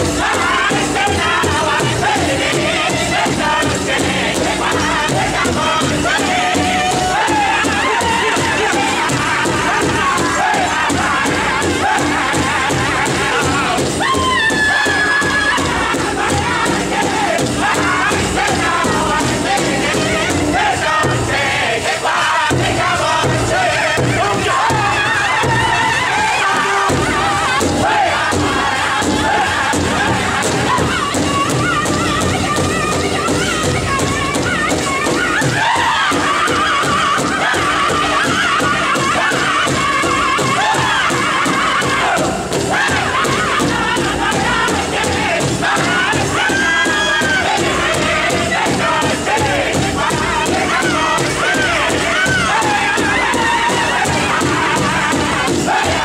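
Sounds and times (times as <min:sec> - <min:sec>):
large hide drum beating: 0:00.0 - 0:56.0
men singing in unison: 0:00.0 - 0:56.0.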